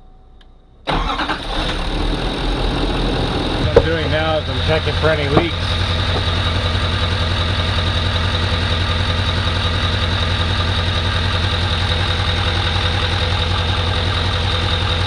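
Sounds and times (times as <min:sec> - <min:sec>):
diesel engine idling: 0:00.9 - 0:15.0.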